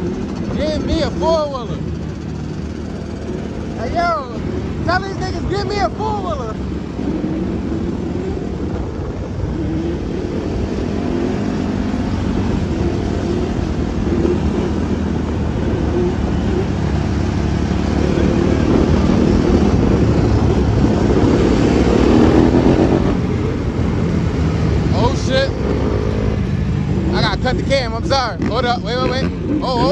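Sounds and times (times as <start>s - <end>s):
off-road engines running: 0.0s - 29.9s.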